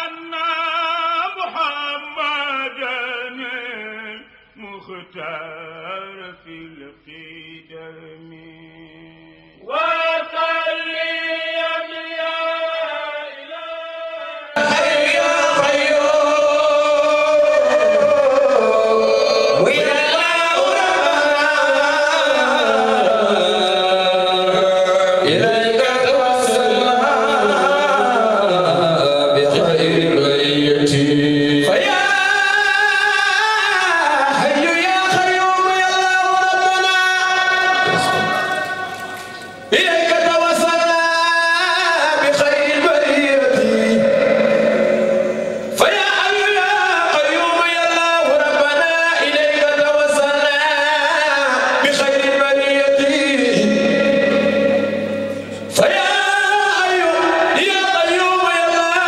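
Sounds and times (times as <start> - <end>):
men chanting devotional verses: 0.0 - 59.0
men chanting into a microphone: 0.0 - 59.0.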